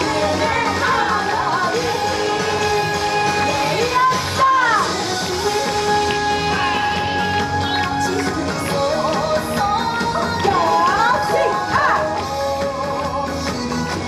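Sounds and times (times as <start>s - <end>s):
dance music over sound system: 0.0s - 14.0s.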